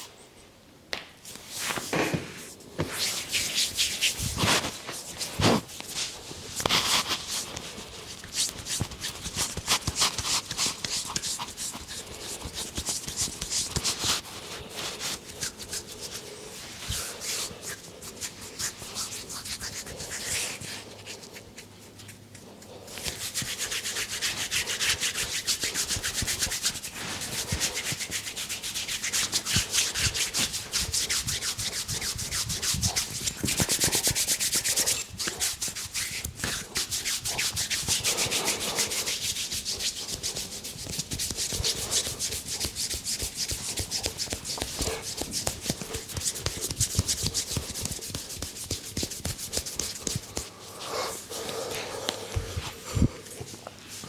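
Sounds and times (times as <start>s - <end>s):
hands rubbing over hair and skin: 1.5s - 54.0s.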